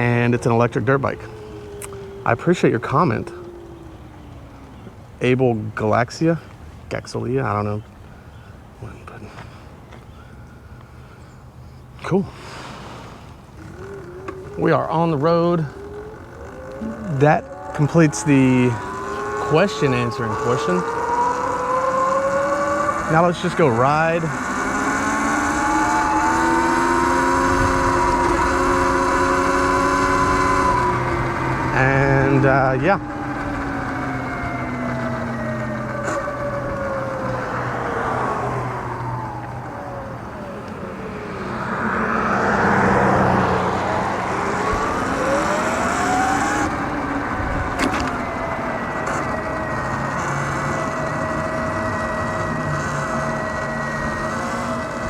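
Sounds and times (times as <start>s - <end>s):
electric motor whine: 0.0s - 5.8s, 12.6s - 55.0s
wind and road noise: 0.0s - 55.0s.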